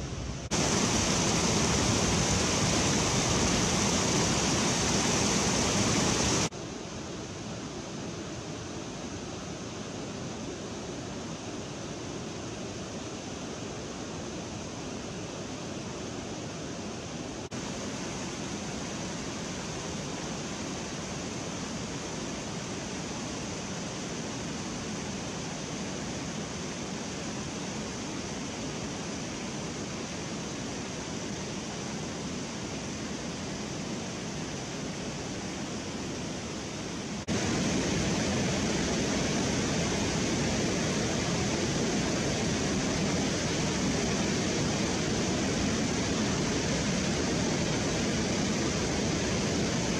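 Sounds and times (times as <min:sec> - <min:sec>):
water rushing over a weir: 0:00.1 - 0:49.9.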